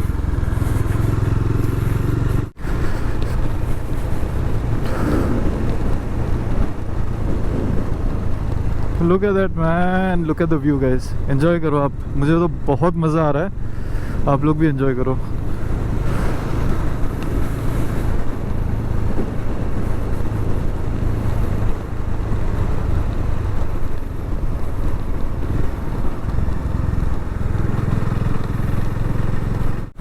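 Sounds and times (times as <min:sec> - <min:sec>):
motorcycle engine running: 0:00.0 - 0:10.3, 0:15.2 - 0:30.0
wind rush: 0:00.0 - 0:12.7, 0:15.2 - 0:30.0.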